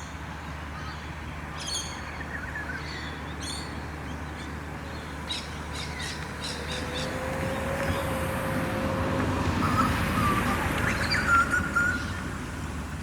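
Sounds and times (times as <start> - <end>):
birds calling: 1.6 - 8.9, 9.5 - 12.8.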